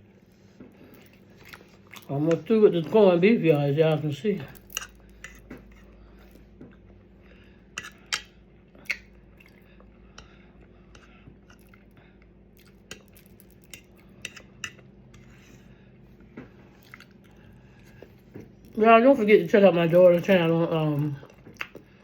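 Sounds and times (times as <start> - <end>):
quiet chewing: 0.4 - 3.0, 4.5 - 18.8, 19.4 - 22.0.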